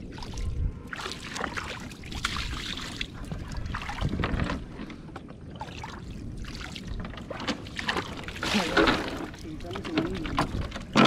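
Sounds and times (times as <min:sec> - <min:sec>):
shallow water sloshing and splashing: 0:00.0 - 0:11.0.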